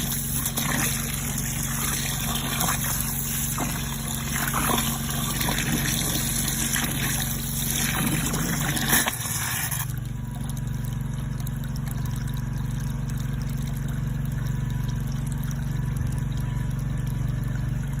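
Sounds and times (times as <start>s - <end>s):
pump humming: 0.0s - 18.0s
water jet splashing: 0.0s - 18.0s.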